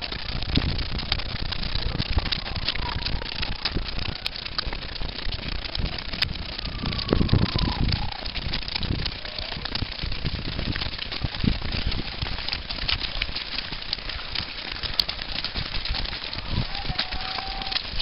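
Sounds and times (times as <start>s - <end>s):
runners' footsteps on rough path: 0.0s - 18.0s
wind buffeting microphone: 0.0s - 18.0s.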